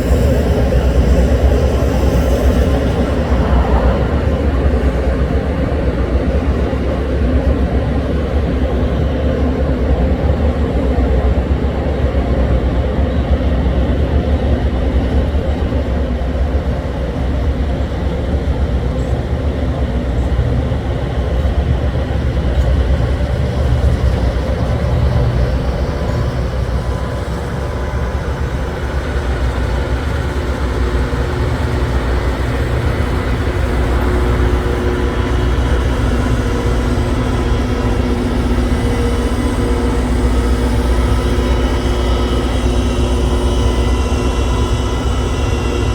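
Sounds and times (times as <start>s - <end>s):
rail grinder train rumbling: 0.0s - 45.9s.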